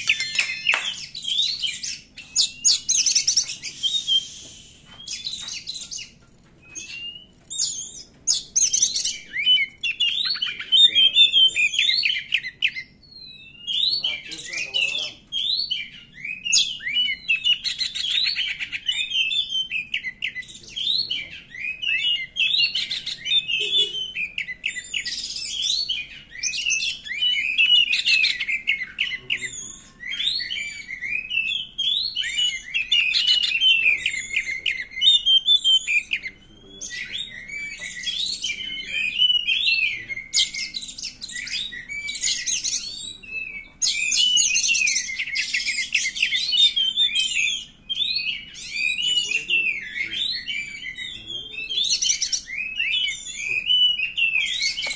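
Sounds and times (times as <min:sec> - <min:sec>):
bird whistled song: 0:00.0 - 0:54.9.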